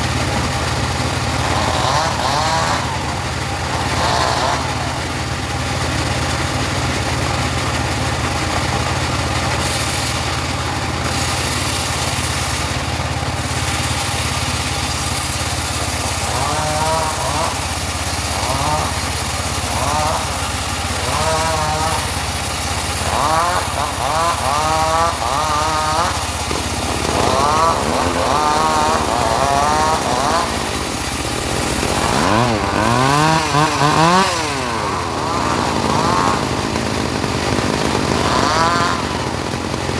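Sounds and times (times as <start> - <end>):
saw blade whine: 0.0 - 39.9
sawmill engine hum: 0.0 - 39.9.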